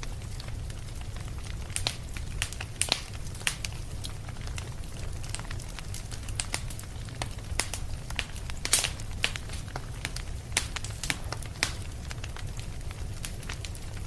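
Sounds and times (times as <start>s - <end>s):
fire crackling and popping: 0.0s - 14.0s
low fire rumble: 0.0s - 14.0s.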